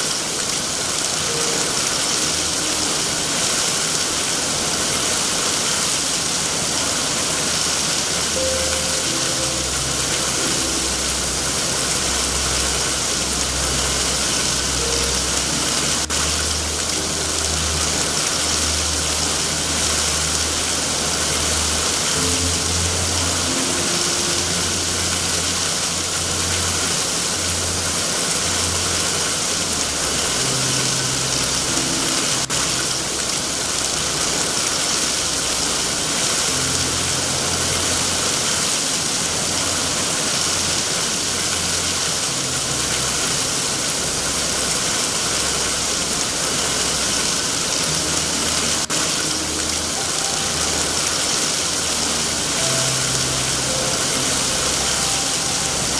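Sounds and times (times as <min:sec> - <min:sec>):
heavy rain hiss: 0:00.0 - 0:55.9.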